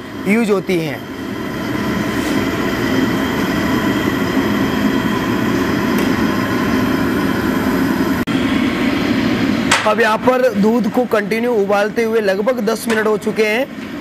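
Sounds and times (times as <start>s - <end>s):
gas burner roaring: 0.0s - 14.0s.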